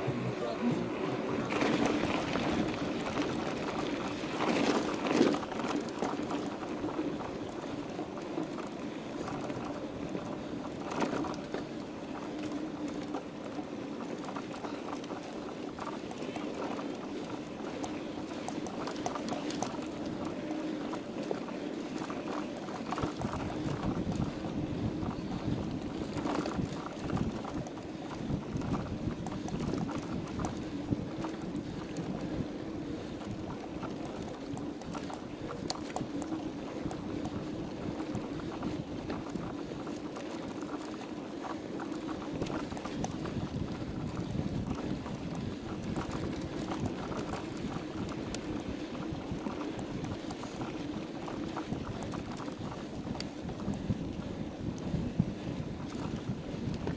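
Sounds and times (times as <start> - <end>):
bike tyres on dirt: 0.0 - 56.9
wind on microphone: 0.0 - 56.9
bike clicks and rattles: 1.2 - 56.9.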